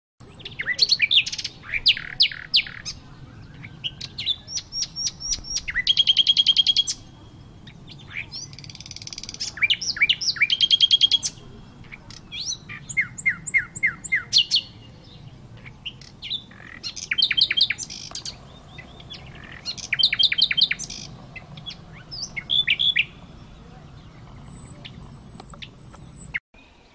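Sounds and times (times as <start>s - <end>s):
nightingale singing: 0.2s - 26.9s.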